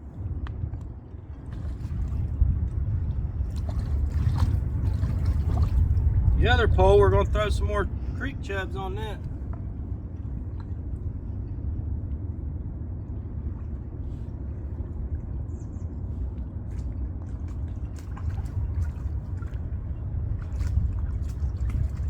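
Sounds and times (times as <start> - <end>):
faint watery sounds: 0.0 - 22.0
wind rumble on microphone: 0.0 - 22.0.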